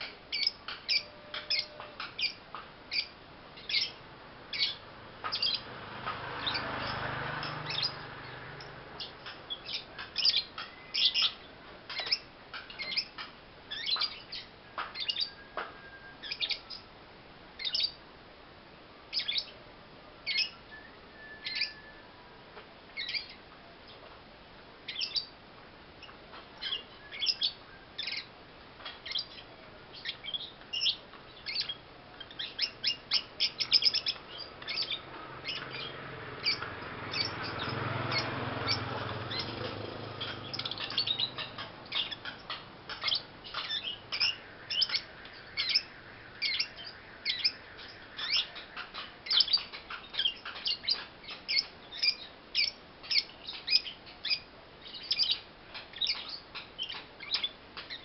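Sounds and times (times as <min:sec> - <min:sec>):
bird chirping: 0:00.0 - 0:16.9, 0:17.6 - 0:18.0, 0:19.1 - 0:19.6, 0:20.2 - 0:22.4, 0:23.0 - 0:24.1, 0:24.8 - 0:25.4, 0:26.0 - 0:58.0.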